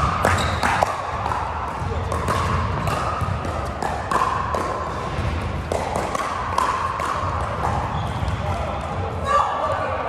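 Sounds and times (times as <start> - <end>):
paddles hitting plastic balls: 0.0 - 8.4.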